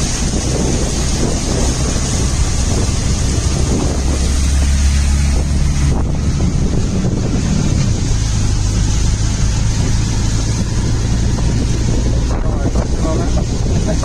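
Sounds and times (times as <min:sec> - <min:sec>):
vehicle engines running: 0:00.0 - 0:14.0
water churning: 0:00.0 - 0:14.0
wind buffeting microphone: 0:00.0 - 0:14.0.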